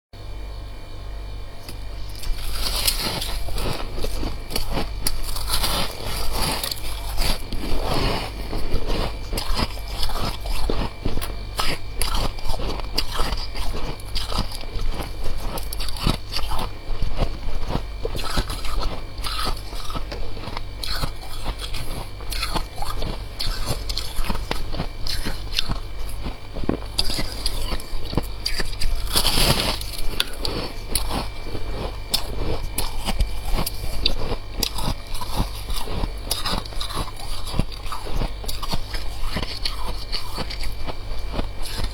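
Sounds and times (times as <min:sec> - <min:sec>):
steady low hum: 0:00.2 - 0:41.9
chewing crunchy frost: 0:01.6 - 0:41.9.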